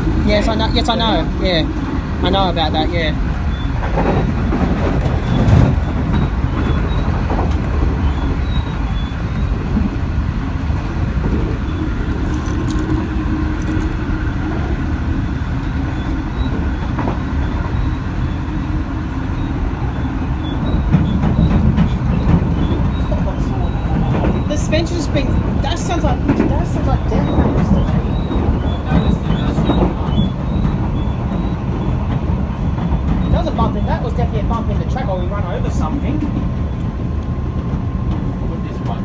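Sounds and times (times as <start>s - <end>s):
train carriage rumbling on track: 0.0s - 39.0s.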